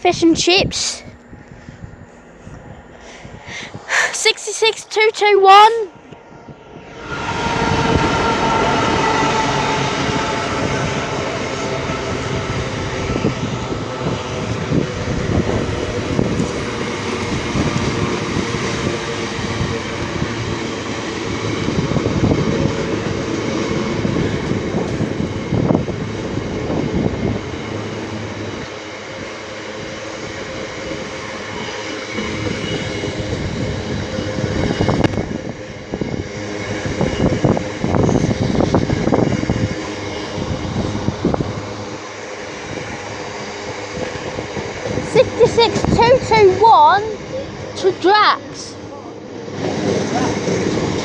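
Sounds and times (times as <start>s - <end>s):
diesel locomotive engine drone: 0.0s - 51.0s.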